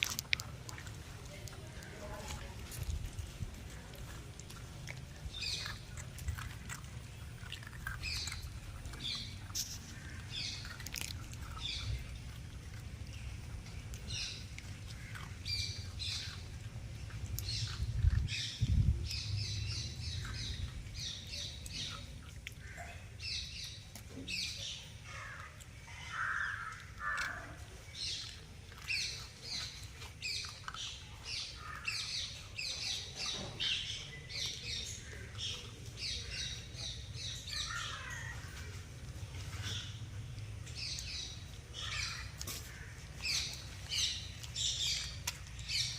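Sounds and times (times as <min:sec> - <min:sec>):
puppies eating wet clicks: 0:00.0 - 0:45.9.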